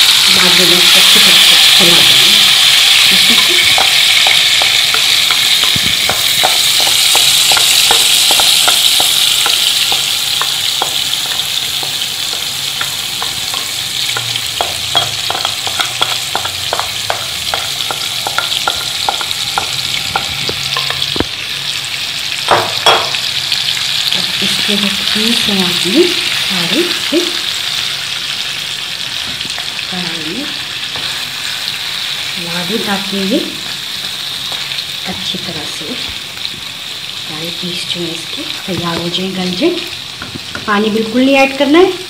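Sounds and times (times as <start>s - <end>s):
chicken sizzling in hot oil: 0.0s - 42.0s.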